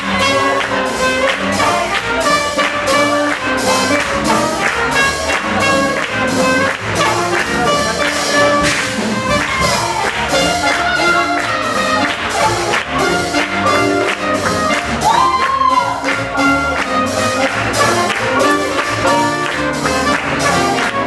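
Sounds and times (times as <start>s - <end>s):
swing jazz with brass horns: 0.0s - 21.0s.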